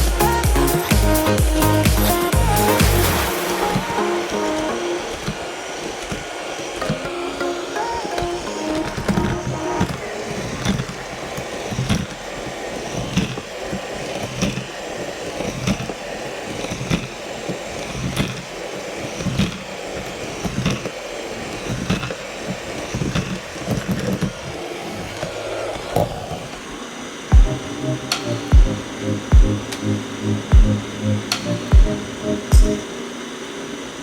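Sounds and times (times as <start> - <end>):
robot vacuum whirring: 0.0 - 34.0.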